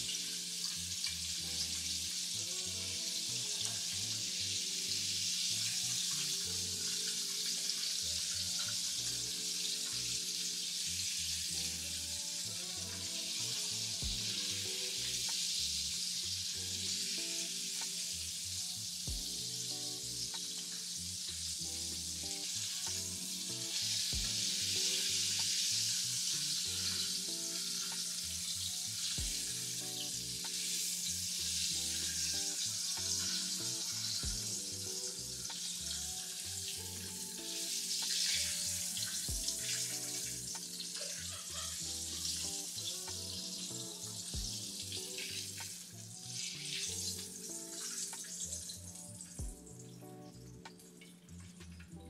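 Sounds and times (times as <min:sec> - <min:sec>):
chicken frying in hot oil: 0:00.0 - 0:49.6.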